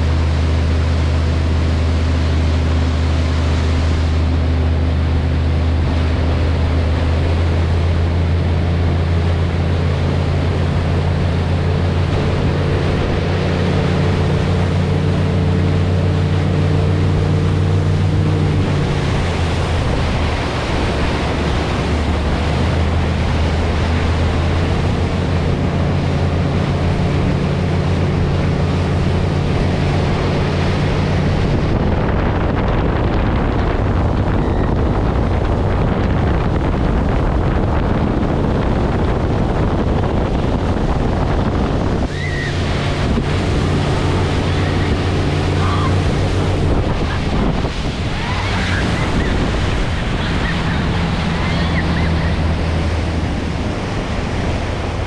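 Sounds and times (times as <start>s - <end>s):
churning wake water: 0.0s - 55.0s
motorboat engine hum: 0.0s - 55.0s
wind buffeting microphone: 0.0s - 55.0s.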